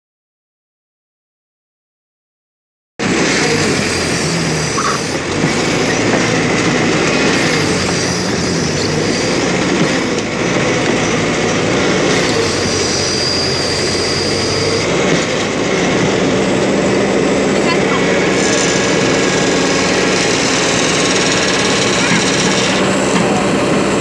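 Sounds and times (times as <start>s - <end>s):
excavator diesel engine running: 3.0s - 24.0s
steel crawler tracks clanking: 3.0s - 24.0s.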